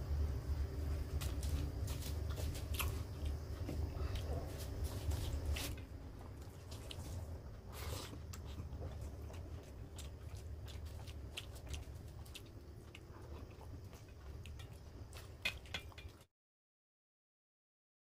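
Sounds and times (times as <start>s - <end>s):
low steady hum: 0.0s - 16.2s
person chewing: 1.0s - 16.3s.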